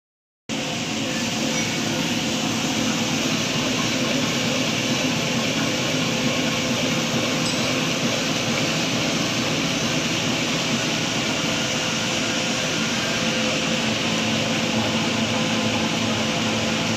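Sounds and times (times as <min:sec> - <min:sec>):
machine whirring and hissing: 0:00.5 - 0:16.9.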